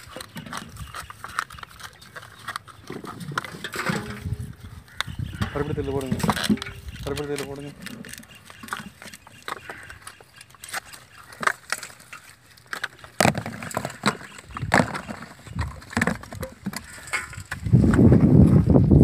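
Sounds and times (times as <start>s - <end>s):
coconut shells clacking: 0.0s - 18.0s.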